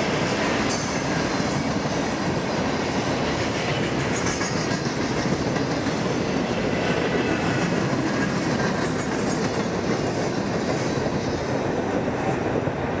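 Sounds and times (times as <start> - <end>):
train wheels clattering on rail: 0.0 - 13.0.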